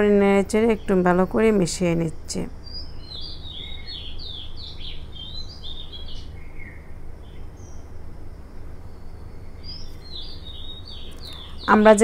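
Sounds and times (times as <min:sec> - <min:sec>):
low hum: 0:00.0 - 0:12.0
small birds chirping: 0:00.0 - 0:12.0.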